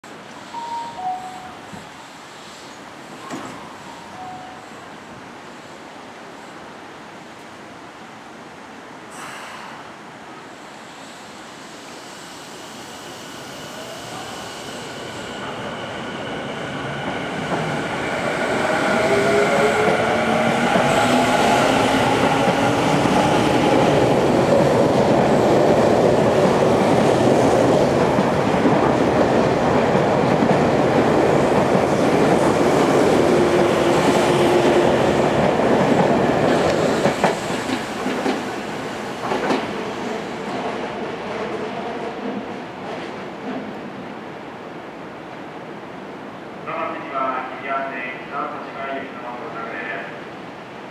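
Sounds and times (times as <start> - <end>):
train rumble and wheel noise: 0.0 - 50.9.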